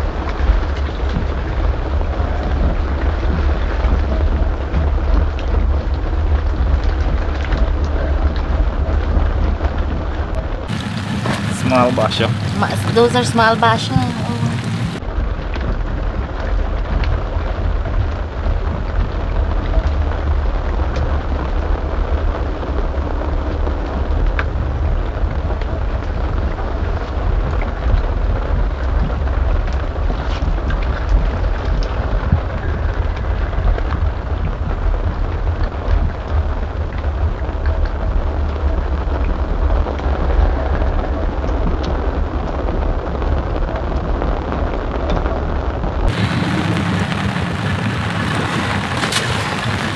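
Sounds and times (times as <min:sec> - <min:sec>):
boat engine running: 0:00.0 - 0:49.9
low rumble and rushing: 0:00.0 - 0:49.9
raindrops ticking: 0:00.0 - 0:49.9.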